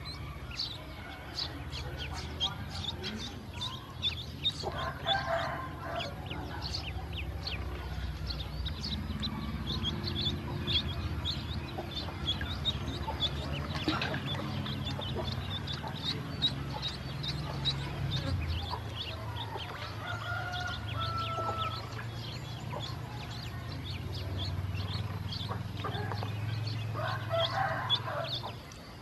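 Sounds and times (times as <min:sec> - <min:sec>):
ducklings peeping: 0:00.0 - 0:29.0.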